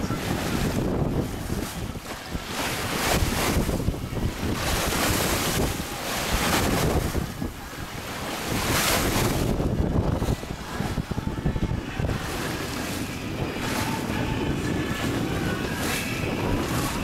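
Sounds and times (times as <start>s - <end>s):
water rushing along a boat hull: 0.0s - 17.0s
wind buffeting the microphone: 0.0s - 17.0s.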